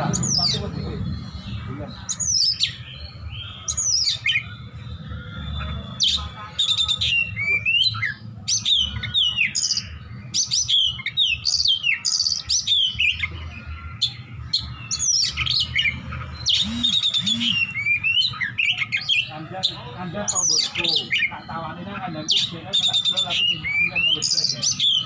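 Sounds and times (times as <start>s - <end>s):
songbird singing whistles and trills: 0.0s - 13.4s, 14.0s - 21.6s, 22.2s - 25.0s.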